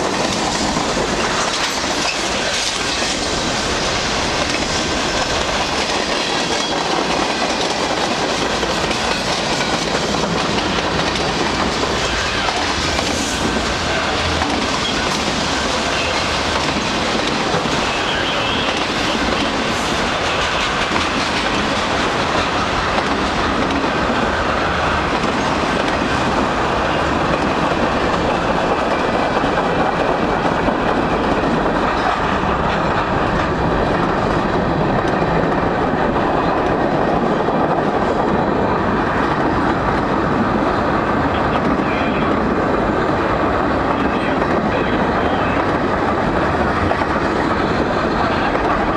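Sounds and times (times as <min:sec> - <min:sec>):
freight train wheels on rails: 0:00.0 - 0:48.9.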